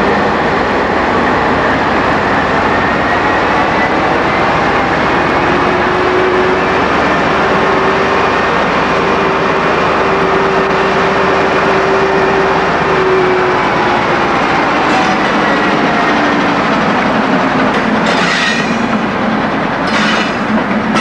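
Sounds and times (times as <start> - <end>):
diesel locomotive engine running: 0.0 - 21.0
steady whine: 0.0 - 21.0.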